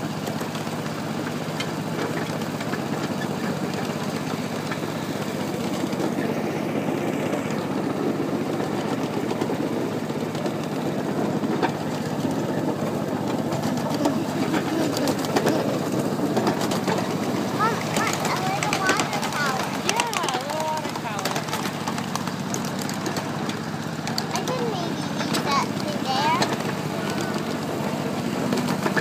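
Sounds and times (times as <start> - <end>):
miniature train running on track: 0.0 - 29.0.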